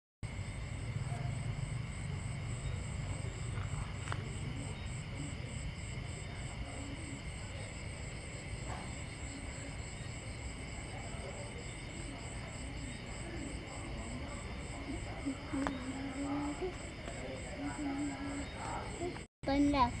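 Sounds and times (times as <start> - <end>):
crickets chirping: 0.2 - 20.0
insect trills: 0.3 - 20.0.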